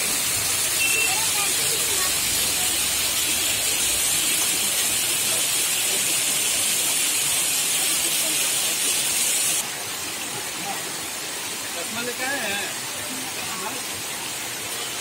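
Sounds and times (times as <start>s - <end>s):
waterfall and stream over rocks: 0.0s - 15.0s.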